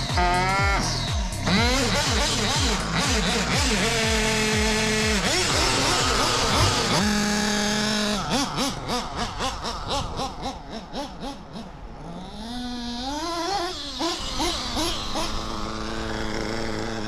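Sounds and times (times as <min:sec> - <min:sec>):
model car engine revving: 0:00.0 - 0:17.0.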